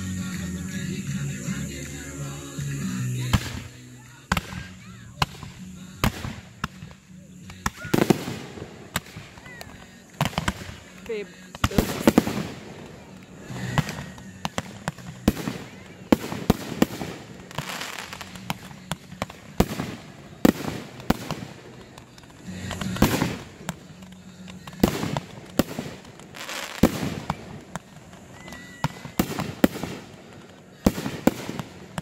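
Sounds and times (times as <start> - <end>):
fireworks hissing: 0.0 - 32.0
fireworks bangs: 0.7 - 32.0.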